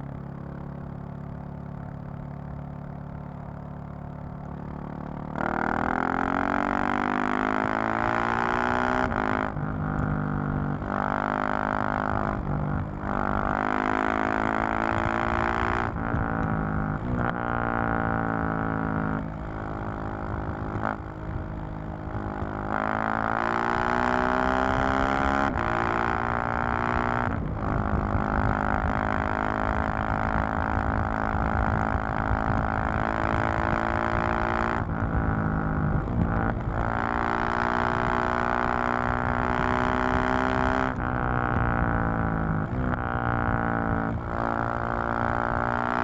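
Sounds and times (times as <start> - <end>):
motorcycle engine revving: 2.3 - 46.0.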